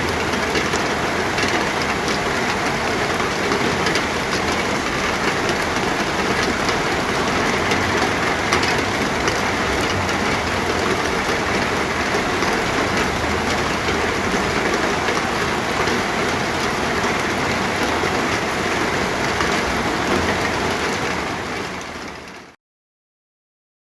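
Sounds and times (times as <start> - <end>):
heavy rain falling: 0.0 - 22.6.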